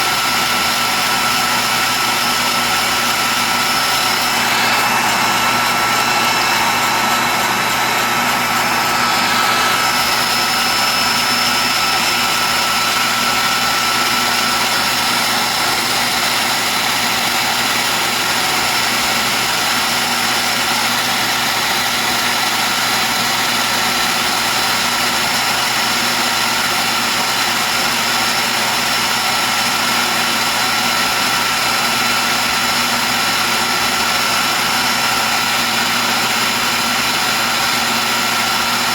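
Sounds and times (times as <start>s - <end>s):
grinder motor high whine: 0.0s - 38.9s
lathe humming: 0.0s - 38.9s.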